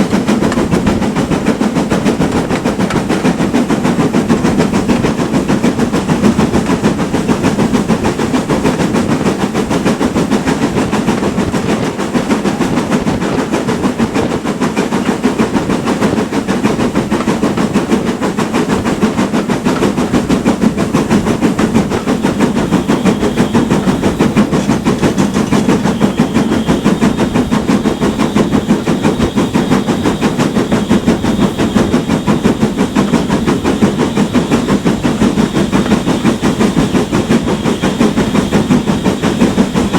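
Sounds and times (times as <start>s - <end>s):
steam locomotive exhaust beats: 0.0s - 39.9s
train running noise: 0.0s - 39.9s.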